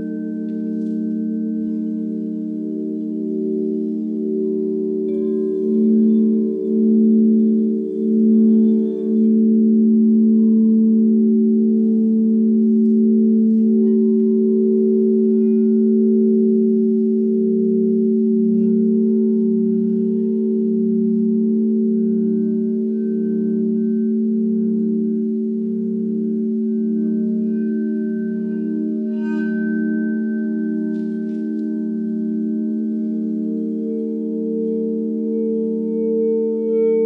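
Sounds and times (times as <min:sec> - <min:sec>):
crystal singing bowls: 0:00.0 - 0:37.0.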